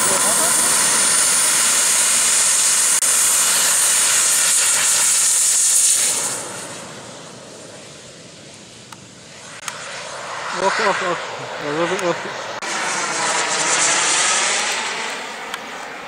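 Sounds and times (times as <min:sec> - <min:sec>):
jet turbine high hiss: 0:00.0 - 0:16.0.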